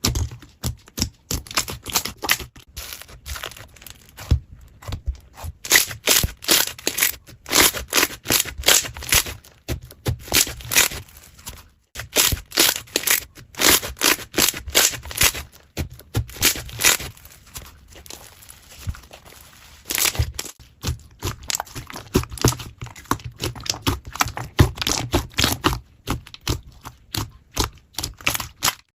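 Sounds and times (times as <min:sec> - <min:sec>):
slime squishing and crackling: 0:00.0 - 0:28.9.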